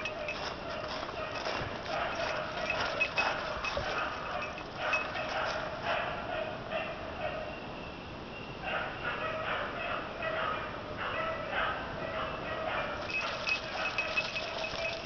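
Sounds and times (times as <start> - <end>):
hunting dogs baying: 0.0 - 7.5, 8.7 - 15.0.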